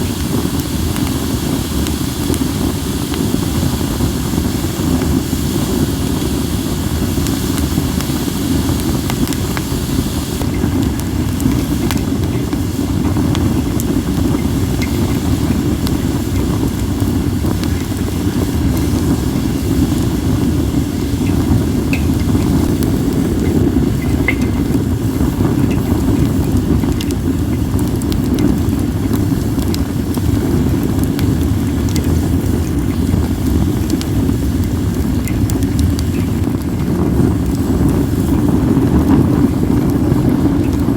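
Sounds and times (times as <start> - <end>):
campfire crackling and popping: 0.0 - 40.9
wind rumbling on microphone: 0.0 - 40.9.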